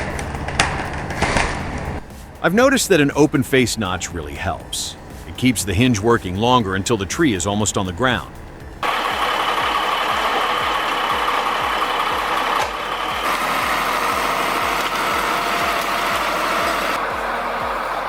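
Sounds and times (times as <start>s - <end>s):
engine thumping steadily: 0.0s - 18.0s.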